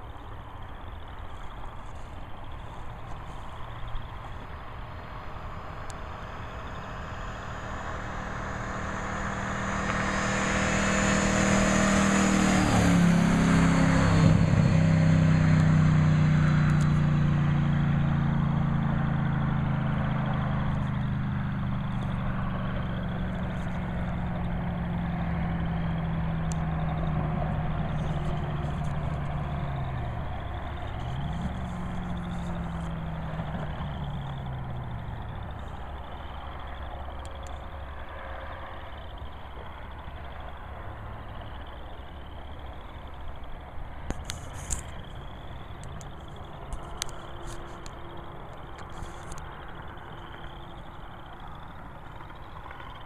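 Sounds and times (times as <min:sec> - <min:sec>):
pickup truck driving past: 0:01.7 - 0:53.0.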